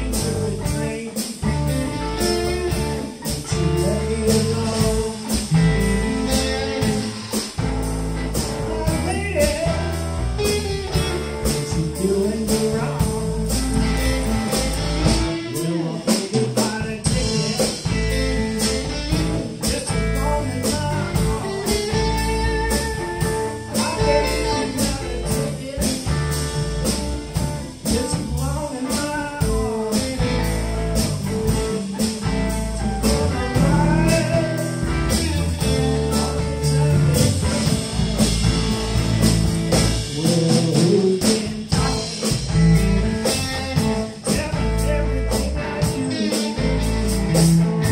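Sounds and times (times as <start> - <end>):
blues band playing: 0.0 - 47.9
steady drum beat: 0.0 - 47.9.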